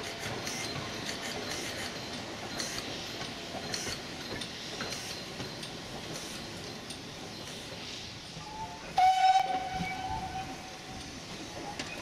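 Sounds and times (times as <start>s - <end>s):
rail noise: 0.0s - 12.0s
steam hiss: 0.0s - 12.0s
steam locomotive chuffing: 0.0s - 12.0s.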